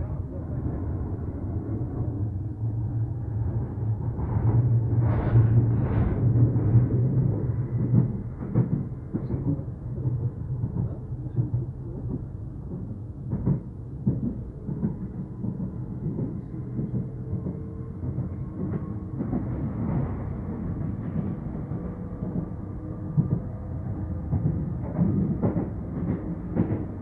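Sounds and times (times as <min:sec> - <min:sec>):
train rumbling inside carriage: 0:00.0 - 0:27.0.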